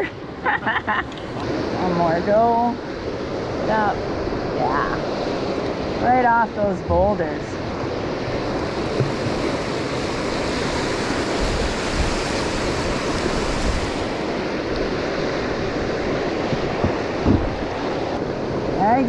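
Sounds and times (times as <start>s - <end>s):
river water rushing: 1.1s - 19.0s.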